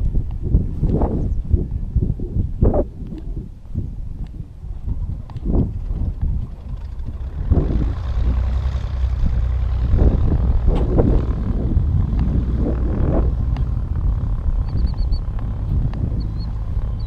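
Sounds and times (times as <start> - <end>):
aircraft engine rumbling: 0.0 - 17.0
wind buffeting microphone: 0.0 - 17.0.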